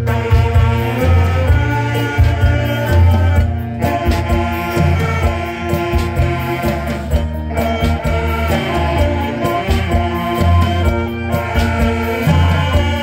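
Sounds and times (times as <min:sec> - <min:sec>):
deep bass line: 0:00.0 - 0:13.0
saxophone ensemble playing melody: 0:00.0 - 0:13.0.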